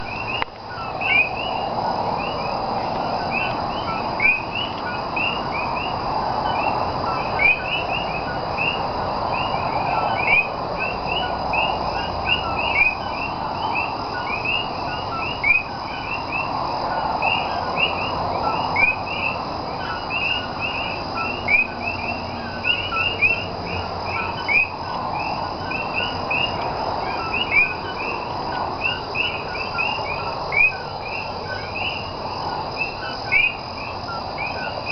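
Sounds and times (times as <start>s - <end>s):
frogs calling: 0.0s - 34.9s.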